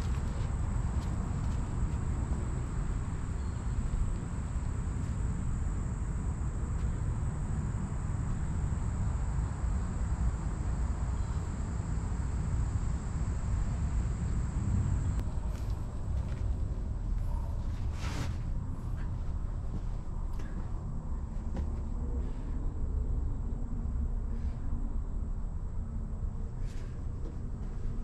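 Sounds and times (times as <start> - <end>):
constant low rumble: 0.0 - 28.0.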